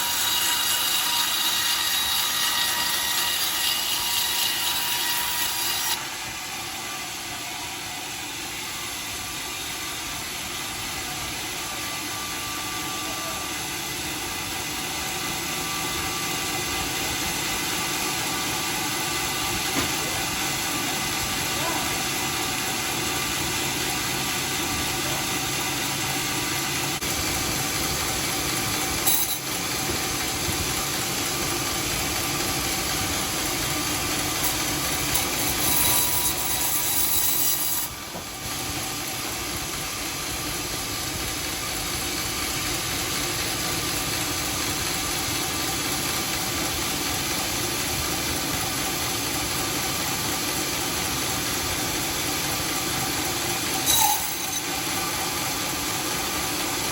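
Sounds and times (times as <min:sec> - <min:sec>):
sawmill sawing wood: 0:00.0 - 0:56.9.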